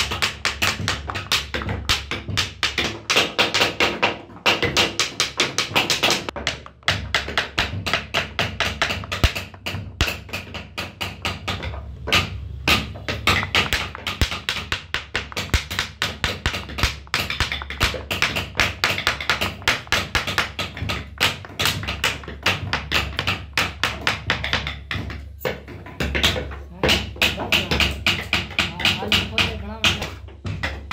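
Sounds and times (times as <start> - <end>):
mallet tapping chisel into wood: 0.0 - 30.9.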